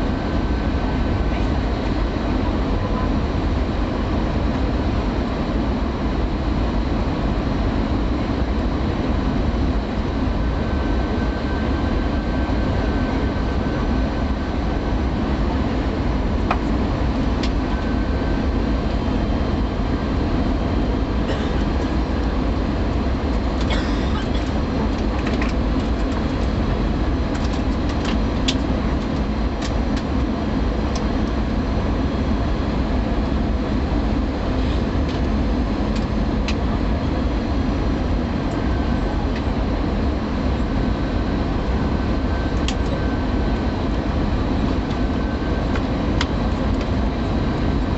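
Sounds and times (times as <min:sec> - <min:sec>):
airliner cabin rumble: 0:00.0 - 0:47.9.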